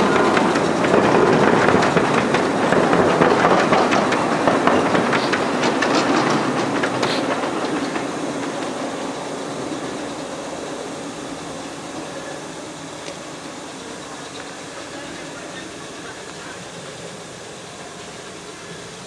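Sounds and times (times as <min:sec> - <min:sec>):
train cars clicking over rail joints: 0:00.0 - 0:19.0.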